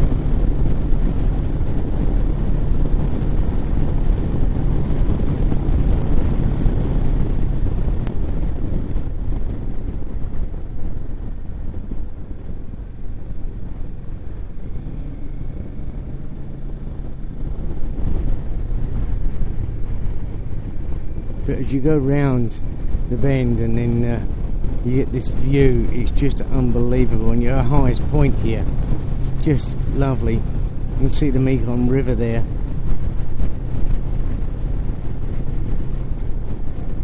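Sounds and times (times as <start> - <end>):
motorcycle engine running: 0.0 - 37.0
wind rush on microphone: 0.0 - 37.0.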